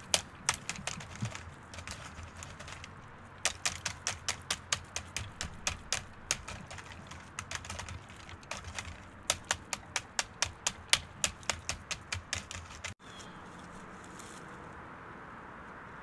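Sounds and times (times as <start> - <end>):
crisp tapping close to microphone: 0.0 - 13.0.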